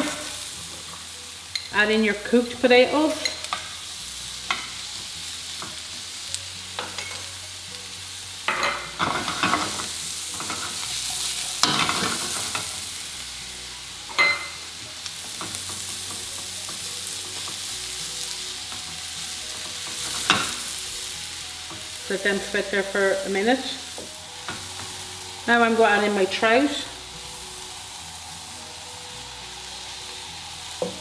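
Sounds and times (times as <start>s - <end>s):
food frying in oil: 0.0s - 31.0s.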